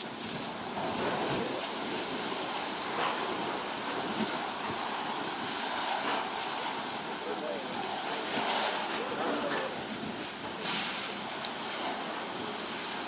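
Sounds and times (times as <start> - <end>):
flames roaring: 0.0 - 13.0
water nozzle spraying hiss: 0.0 - 13.0.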